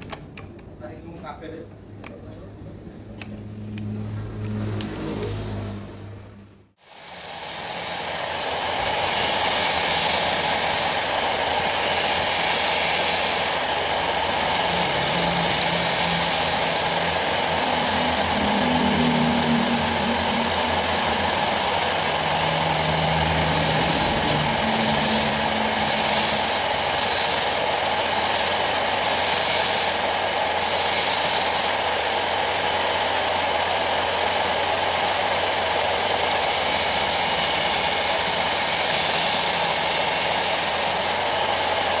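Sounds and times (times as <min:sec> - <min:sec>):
small electric motor running: 0:06.8 - 0:42.0.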